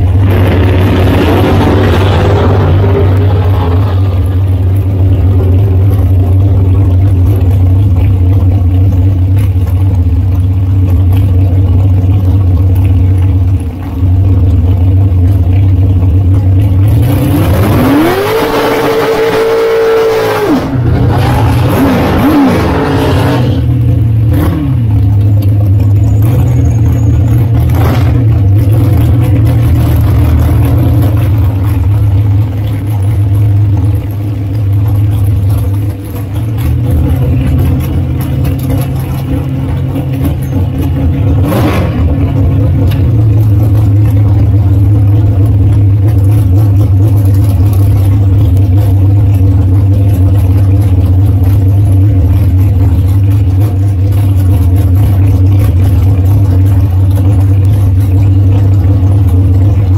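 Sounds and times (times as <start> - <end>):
dragster engine idling: 0.0 - 59.9
engine throttle blips: 0.0 - 59.9.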